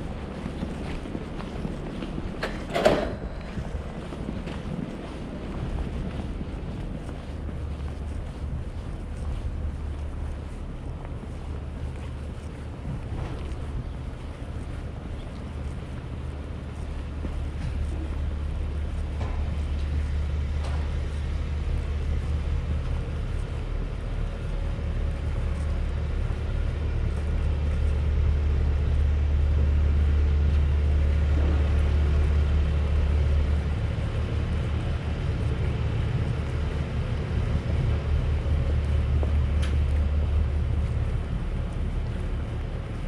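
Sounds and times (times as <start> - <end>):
low rumble of road traffic: 0.0 - 43.0.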